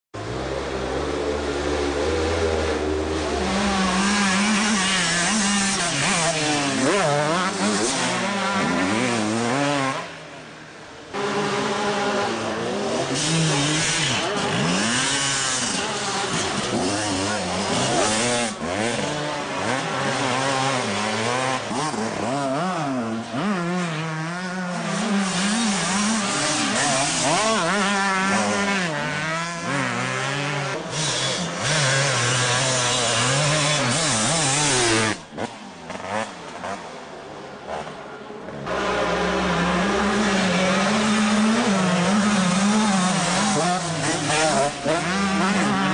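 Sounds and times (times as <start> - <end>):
motocross engine revving: 0.2 - 45.9.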